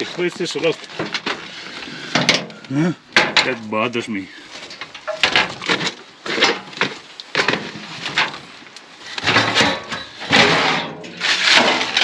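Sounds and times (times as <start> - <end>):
clattering rustle of wooden things: 0.0 - 12.0.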